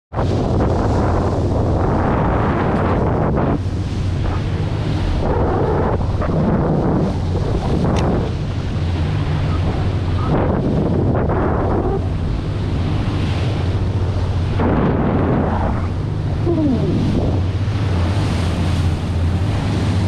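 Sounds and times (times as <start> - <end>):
boat engine hum: 0.1 - 20.0
water rushing off boat bow: 0.1 - 20.0
wind buffeting microphone: 0.1 - 20.0.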